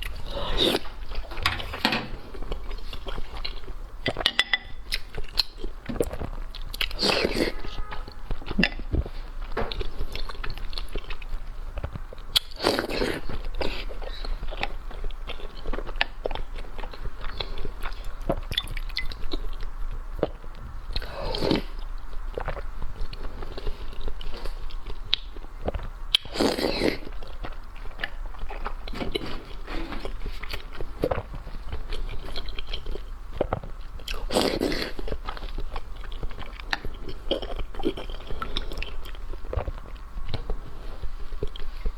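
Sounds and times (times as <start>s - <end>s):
chewing with crunchy clicks: 0.0s - 41.9s.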